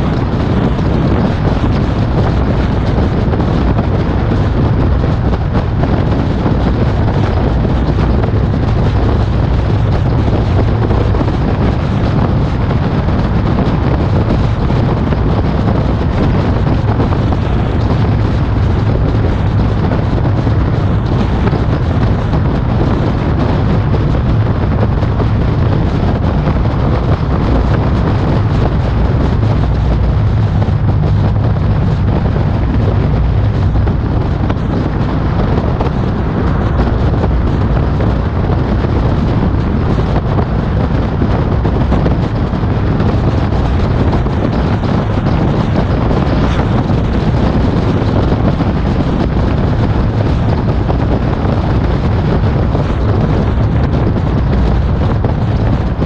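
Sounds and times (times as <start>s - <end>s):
car road and engine noise: 0.0s - 56.0s
wind rumble on microphone: 0.0s - 56.0s.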